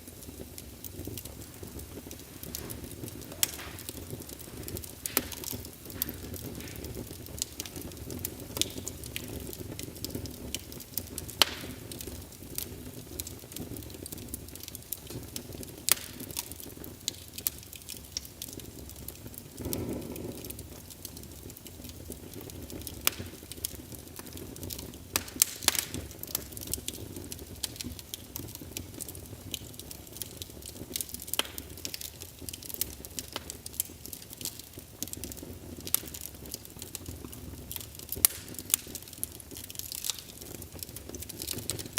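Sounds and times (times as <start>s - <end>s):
fire crackling and popping: 0.0s - 41.9s
low rumble of flames: 0.0s - 41.9s.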